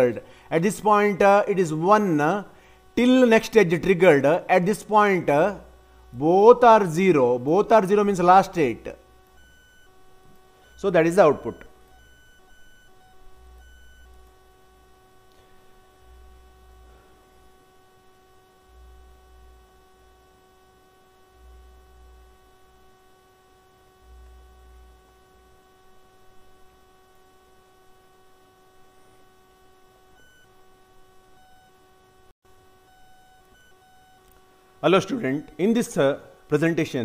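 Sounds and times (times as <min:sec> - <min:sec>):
electrical hum: 0:00.0 - 0:37.0.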